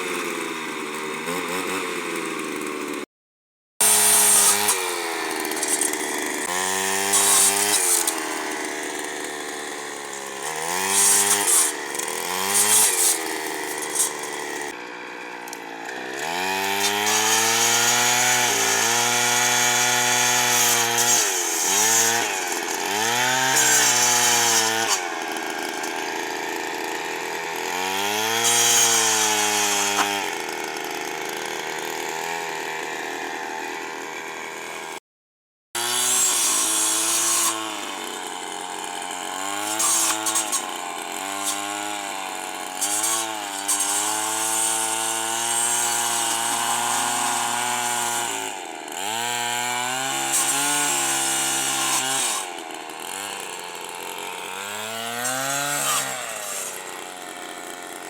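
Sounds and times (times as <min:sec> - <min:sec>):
brushcutter engine revving: 0:00.0 - 0:03.0, 0:03.8 - 0:35.0, 0:35.8 - 0:58.0
blade cutting branches: 0:03.8 - 0:32.4, 0:35.8 - 0:58.0.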